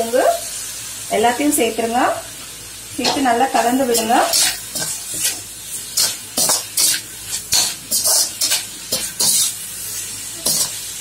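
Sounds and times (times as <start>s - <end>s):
chicken sizzling frying: 0.0s - 11.0s.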